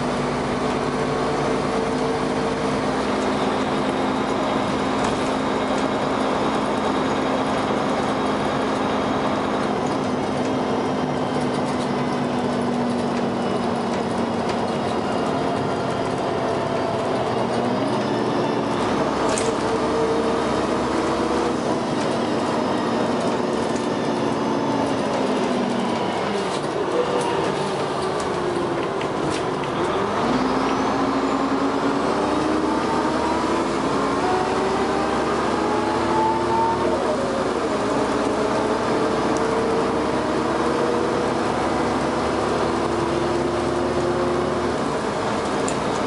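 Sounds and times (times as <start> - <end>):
bus engine accelerating: 0.0 - 46.0.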